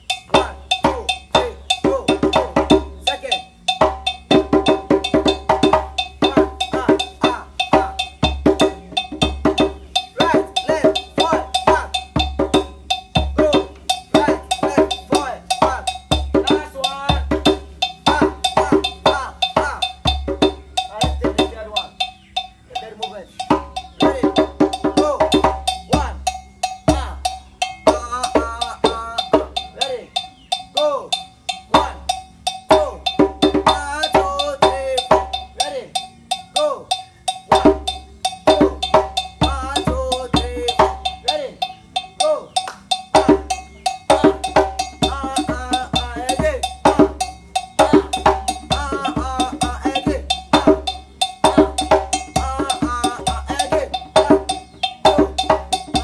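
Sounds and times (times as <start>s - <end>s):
voices singing: 0.0s - 56.0s
fast hand drumming: 0.3s - 22.0s, 23.4s - 29.8s, 31.6s - 35.6s, 37.4s - 41.3s, 42.6s - 56.0s.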